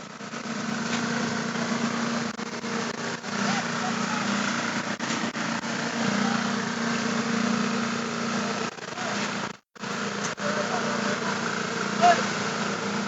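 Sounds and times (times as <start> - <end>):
machinery engine running: 0.0 - 13.0.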